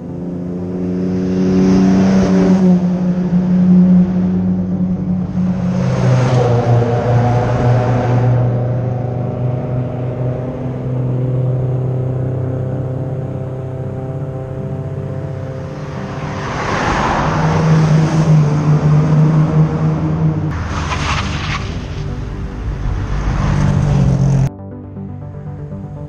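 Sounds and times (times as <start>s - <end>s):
cars passing by: 0.0s - 24.5s
engine drone: 0.0s - 26.0s.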